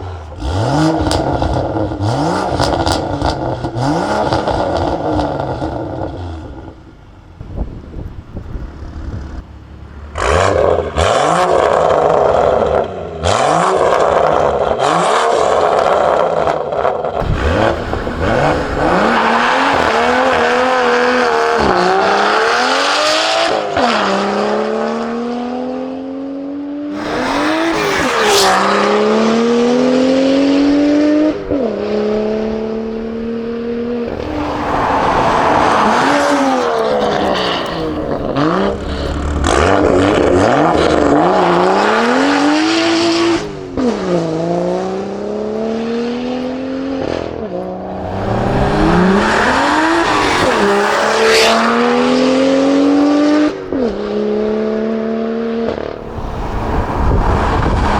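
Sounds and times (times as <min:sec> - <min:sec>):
car engine accelerating hard: 0:10.1 - 0:57.9.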